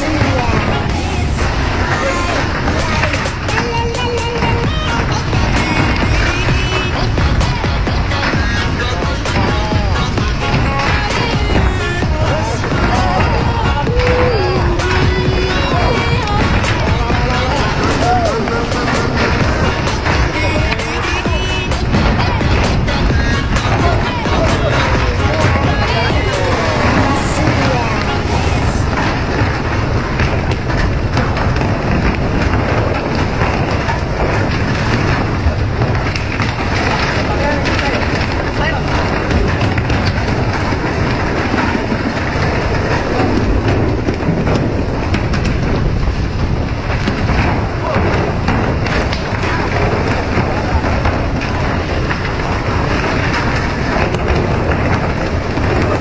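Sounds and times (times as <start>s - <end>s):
boat noise: 0.0s - 56.0s
ship engine rumbling: 0.0s - 56.0s.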